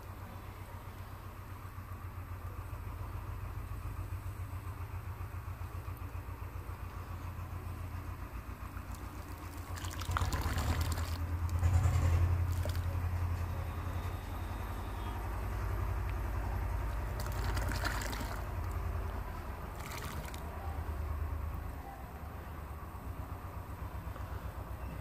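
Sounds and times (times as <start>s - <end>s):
engine low throbbing hum: 0.0s - 25.0s.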